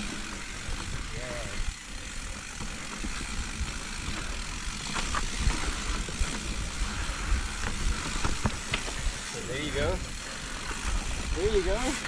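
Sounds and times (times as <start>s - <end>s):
bike knocking and rattling: 0.0s - 12.0s
bike tyres rumbling on rocks: 0.0s - 12.0s.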